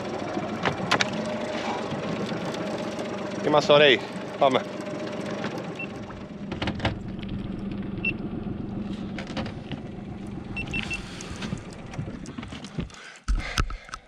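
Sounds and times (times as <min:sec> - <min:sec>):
boat engine idling: 0:00.0 - 0:13.1.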